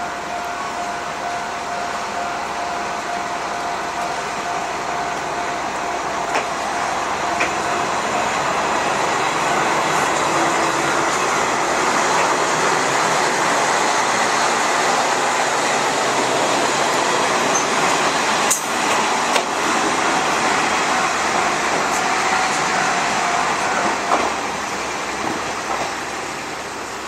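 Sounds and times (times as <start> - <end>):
diesel railcar running: 0.0 - 27.0.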